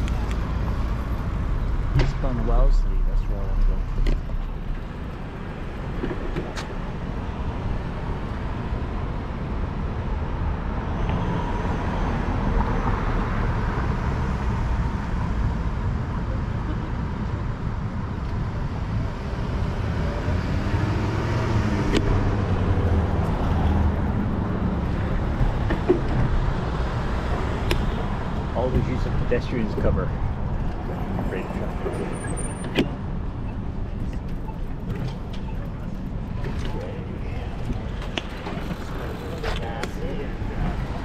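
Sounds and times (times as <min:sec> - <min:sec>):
city street traffic: 0:00.0 - 0:41.0.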